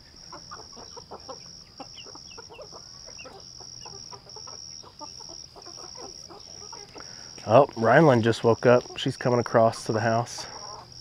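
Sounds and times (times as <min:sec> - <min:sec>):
chickens clucking: 0:00.0 - 0:11.0
high insect drone: 0:00.0 - 0:11.0.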